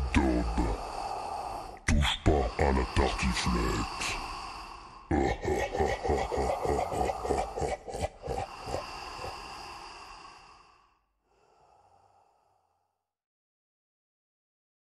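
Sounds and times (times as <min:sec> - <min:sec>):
rapid heavy breathing: 0:00.0 - 0:12.4.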